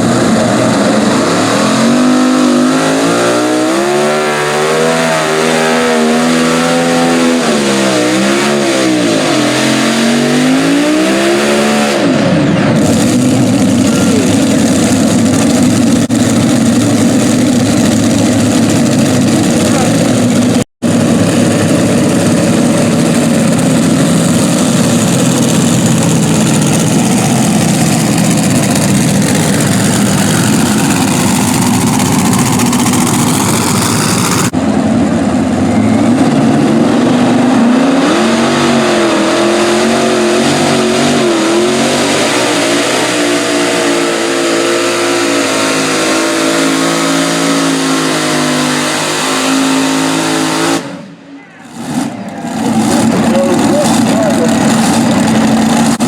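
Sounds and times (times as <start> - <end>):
tractor engines revving: 0.0 - 56.0.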